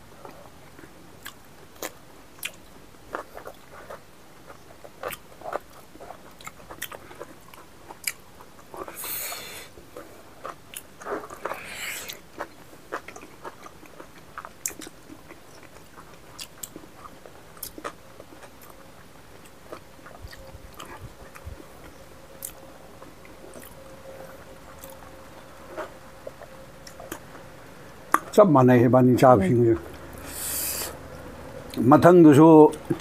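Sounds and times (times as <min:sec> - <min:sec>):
people chewing with wet smacks: 0:00.2 - 0:27.5.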